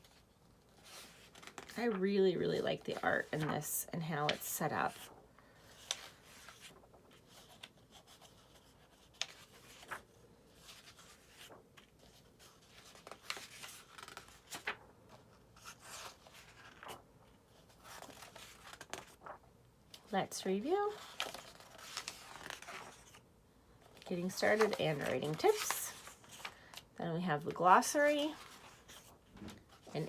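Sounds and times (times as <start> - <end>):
book pages turning and rustling: 0.0 - 30.0.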